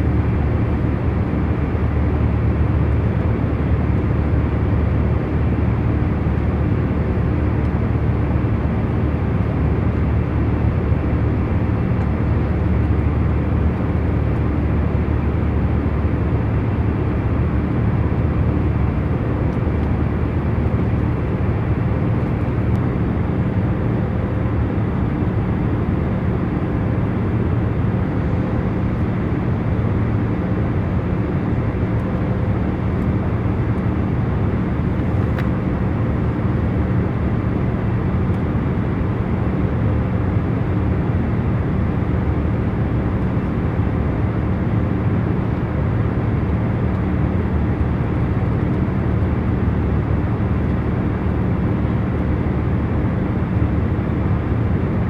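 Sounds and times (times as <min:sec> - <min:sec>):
airplane cabin noise: 0:10.0 - 0:55.0.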